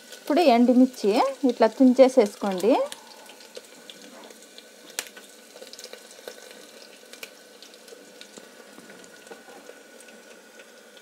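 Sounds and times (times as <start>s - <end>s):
garlic and chillies sizzling in oil: 0.0s - 11.0s.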